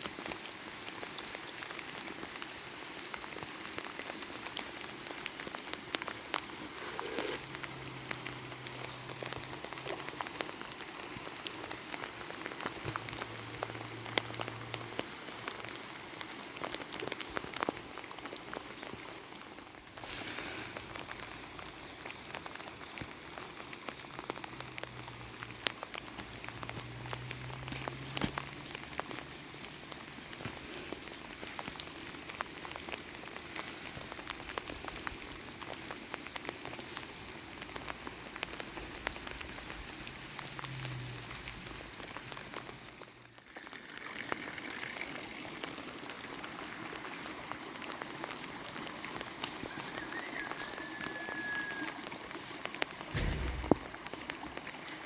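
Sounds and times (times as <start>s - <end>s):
raindrops ticking close by: 0.0s - 55.0s
steady rain hiss: 0.0s - 55.0s.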